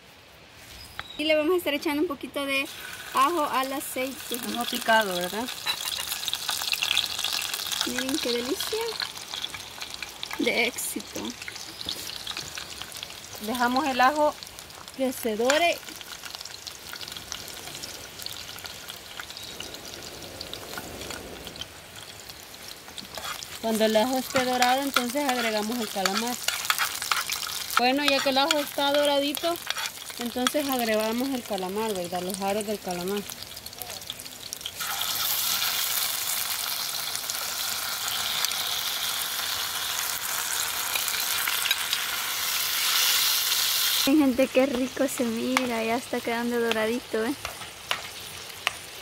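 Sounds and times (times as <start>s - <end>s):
small crackles of frying: 0.0s - 49.0s
garlic sizzling in a pan: 2.3s - 49.0s.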